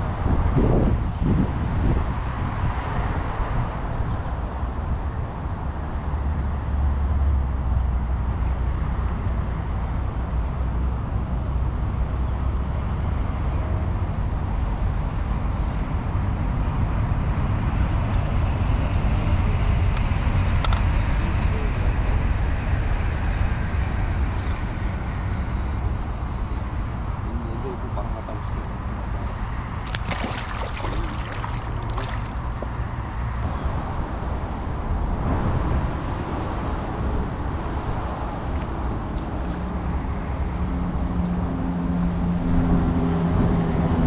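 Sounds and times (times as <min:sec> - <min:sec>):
low rumble of road traffic: 0:00.0 - 0:44.0.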